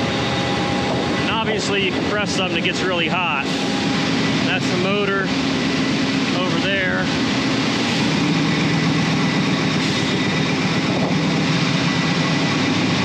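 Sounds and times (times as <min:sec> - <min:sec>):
air compressors droning: 0:00.0 - 0:13.0.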